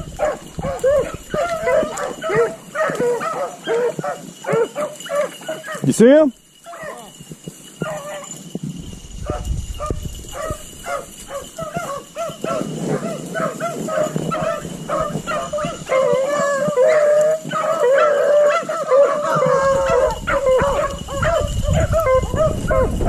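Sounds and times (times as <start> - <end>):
dogs howling: 0.0 - 5.9, 6.6 - 7.2, 7.8 - 8.4, 9.2 - 23.0
dogs barking: 0.0 - 7.2, 7.8 - 8.4, 9.2 - 23.0.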